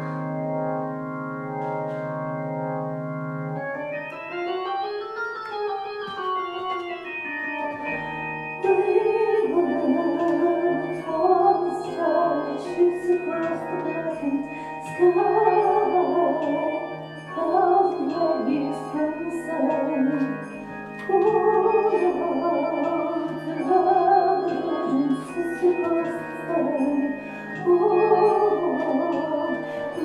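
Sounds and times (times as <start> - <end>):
organ music: 0.0 - 30.0.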